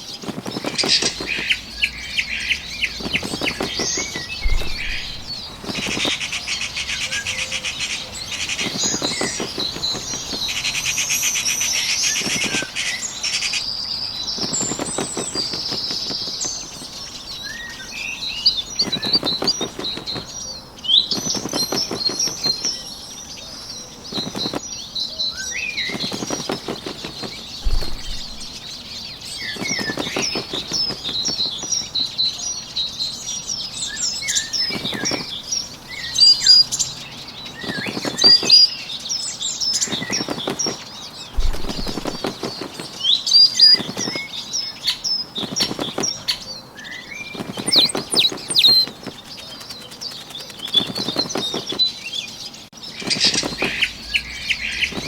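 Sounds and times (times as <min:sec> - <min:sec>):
bird wings flapping: 0:00.0 - 0:32.3, 0:33.9 - 0:46.4, 0:47.1 - 0:55.0
small birds chirping: 0:00.0 - 0:55.0.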